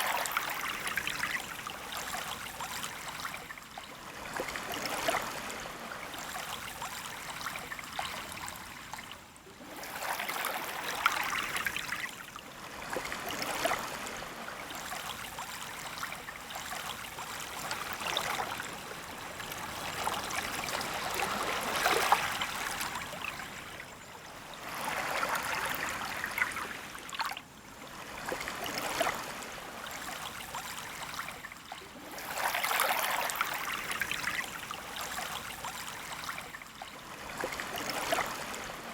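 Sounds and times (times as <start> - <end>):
waves lapping on sand: 0.0 - 38.9.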